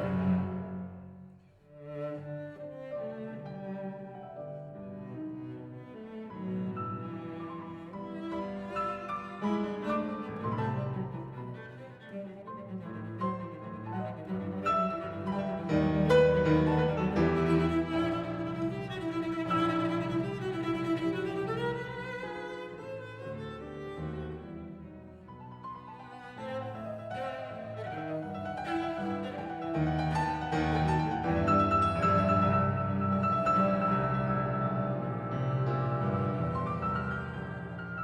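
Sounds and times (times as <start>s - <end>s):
bowed string music: 0.0s - 38.0s.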